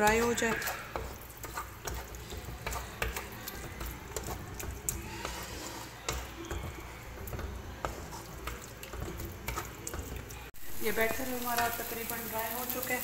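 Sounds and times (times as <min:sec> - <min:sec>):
faint sizzle from pan: 0:00.0 - 0:13.0
wooden spatula scraping a wok: 0:00.0 - 0:13.0.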